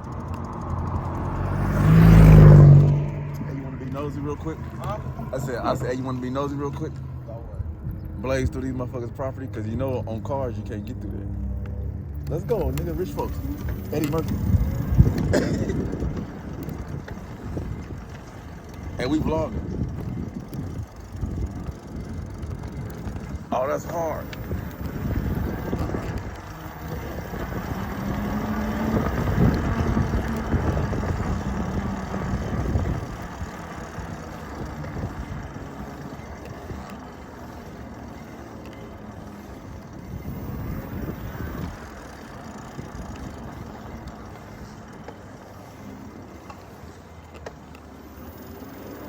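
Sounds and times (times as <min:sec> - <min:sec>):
electric bike riding noise: 0:00.0 - 0:49.0.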